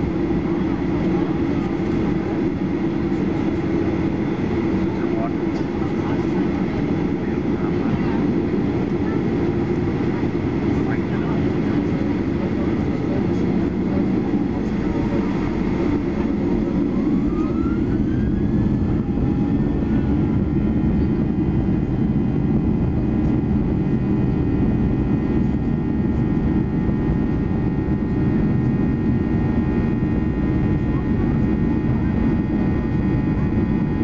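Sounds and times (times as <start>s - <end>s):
high engine whine: 0.0s - 34.0s
jet engines roaring: 0.0s - 34.0s.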